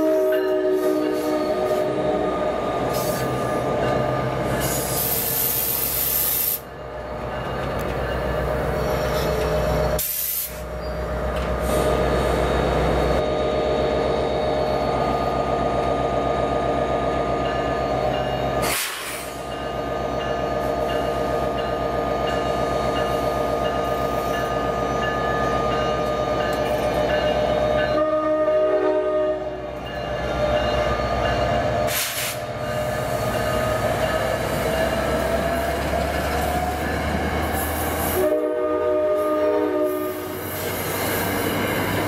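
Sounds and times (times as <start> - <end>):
locomotive engine drone: 0.0 - 42.0
rail noise: 0.0 - 42.0.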